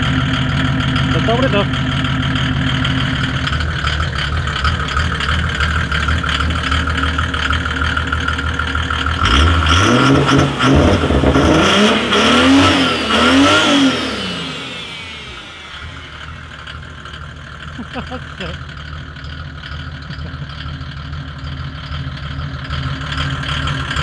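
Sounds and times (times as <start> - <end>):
diesel engine idling and revving: 0.0 - 24.0.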